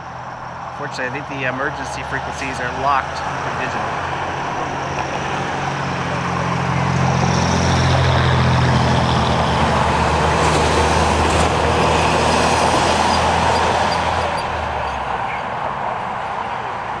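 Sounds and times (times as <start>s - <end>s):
heavy diesel vehicle passing: 0.0s - 17.0s.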